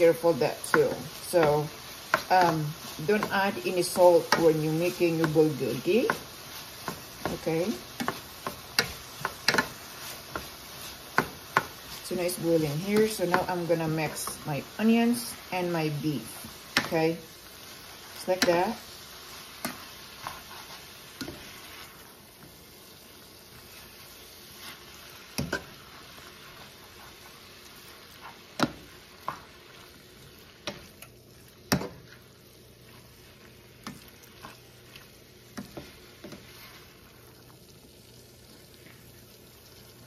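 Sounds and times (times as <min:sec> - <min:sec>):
beef and onions sizzling in skillet: 0:00.0 - 0:40.0.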